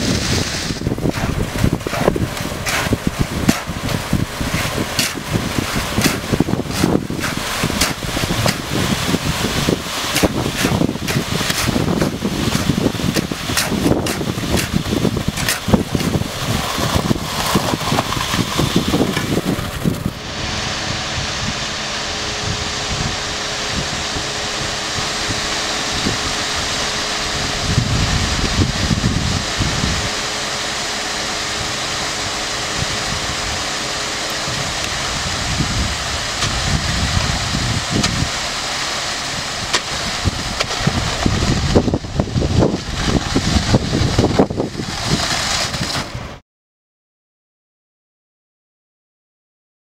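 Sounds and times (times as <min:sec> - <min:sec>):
diesel truck engine running: 0:00.0 - 0:46.4
wind gusting on microphone: 0:00.0 - 0:46.4.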